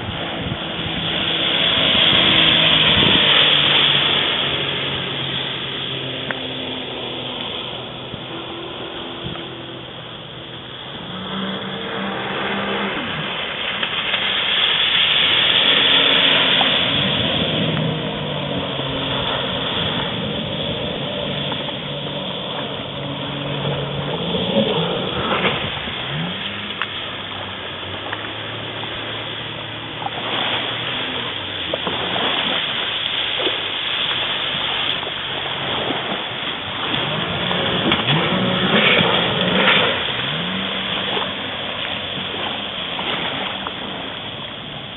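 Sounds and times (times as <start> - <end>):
jet ski engine revving: 0.0 - 44.9
water rushing hiss: 0.0 - 44.9.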